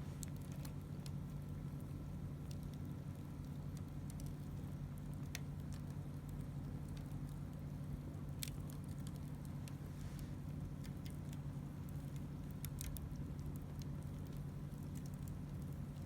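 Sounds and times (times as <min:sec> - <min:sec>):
steady low hum: 0:00.0 - 0:16.0
wood fire crackling: 0:00.0 - 0:16.0.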